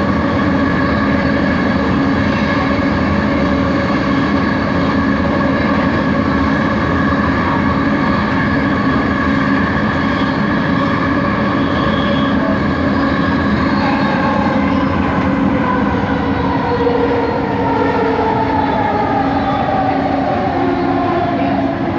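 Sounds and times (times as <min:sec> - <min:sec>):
train running gear rumble: 0:00.0 - 0:21.9.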